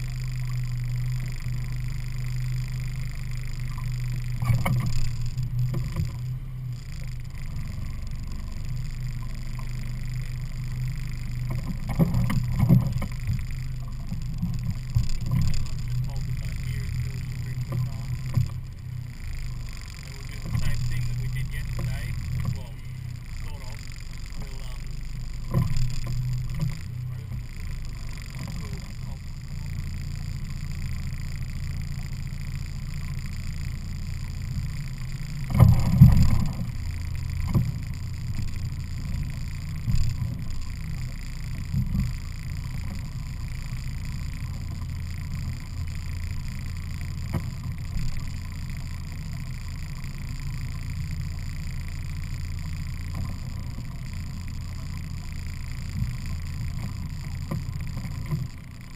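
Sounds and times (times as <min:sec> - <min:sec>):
outboard motor drone: 0:00.0 - 0:58.9.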